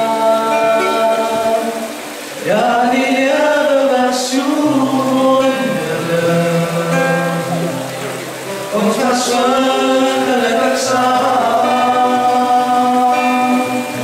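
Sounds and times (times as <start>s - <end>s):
low bass vocal part: 0.0s - 14.0s
male vocal group singing harmony: 0.0s - 14.0s.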